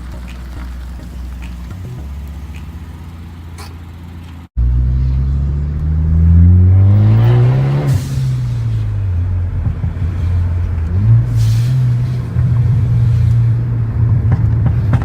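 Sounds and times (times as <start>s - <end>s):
car engine revving: 0.0s - 15.0s
exhaust crackle: 0.0s - 15.0s.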